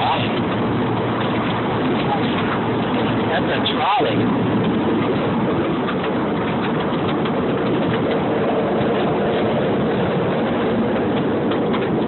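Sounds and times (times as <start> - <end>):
train engine rumble: 0.0 - 12.0
train wheels on rails: 0.0 - 12.0.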